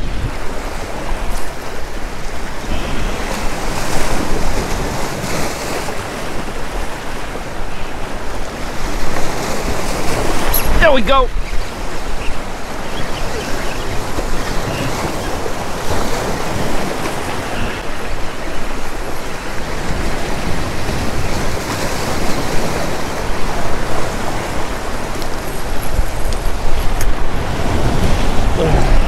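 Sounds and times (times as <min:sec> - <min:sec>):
surf breaking against rocks: 0:00.0 - 0:29.0
wind buffeting microphone: 0:00.0 - 0:29.0.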